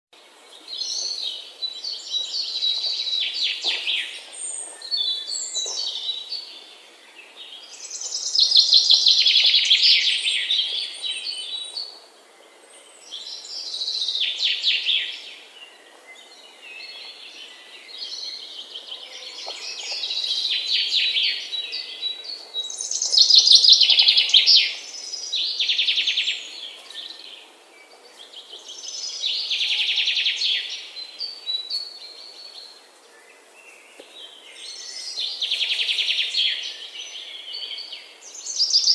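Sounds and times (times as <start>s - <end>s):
small birds chirping: 0.3s - 38.9s.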